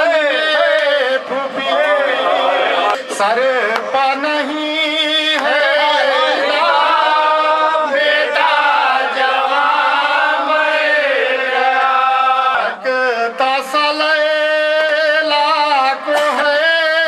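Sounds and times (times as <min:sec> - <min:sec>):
man chanting a lament: 0:00.0 - 0:10.8, 0:11.4 - 0:17.0.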